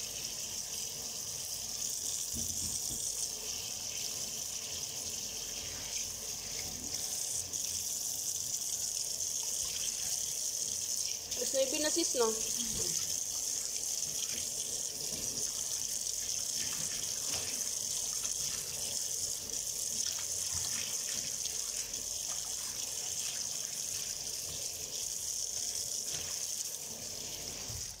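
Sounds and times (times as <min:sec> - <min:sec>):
tap water running into sink: 0:00.0 - 0:28.0.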